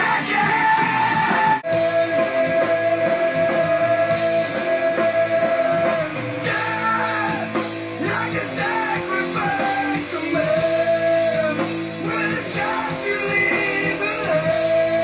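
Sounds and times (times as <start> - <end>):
metal rock song: 0.0 - 15.0.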